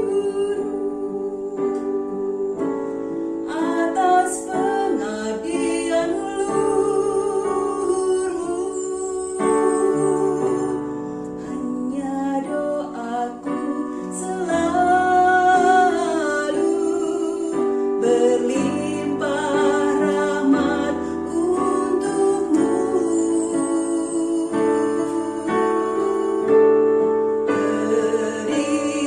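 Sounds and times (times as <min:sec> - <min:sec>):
woman singing: 0:00.0 - 0:02.6, 0:03.4 - 0:29.0.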